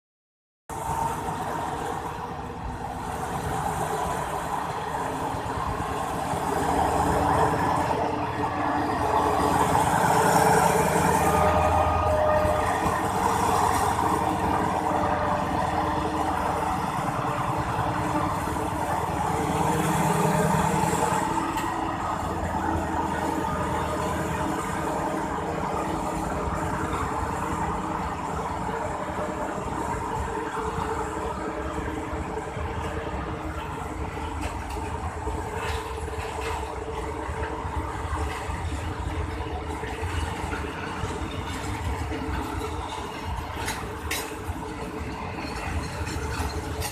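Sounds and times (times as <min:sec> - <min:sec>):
locomotive diesel engine drone: 0:00.7 - 0:46.9.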